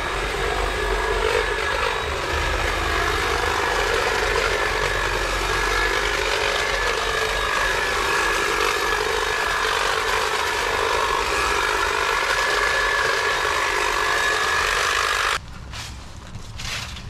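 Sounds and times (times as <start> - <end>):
hedge trimmer motor whining: 0.0 - 15.4.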